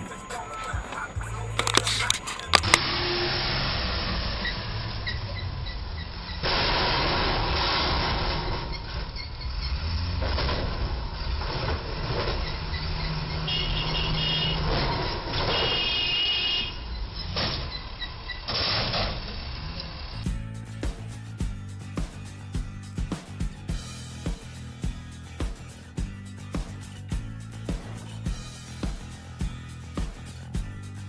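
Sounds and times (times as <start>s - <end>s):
road traffic: 0.0s - 31.0s.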